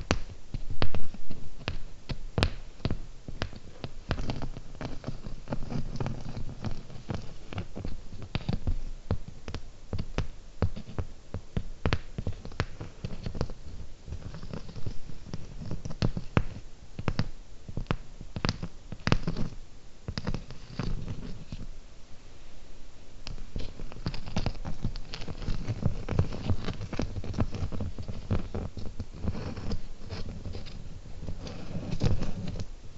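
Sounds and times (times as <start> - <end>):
soft low rustle: 0.0 - 32.9.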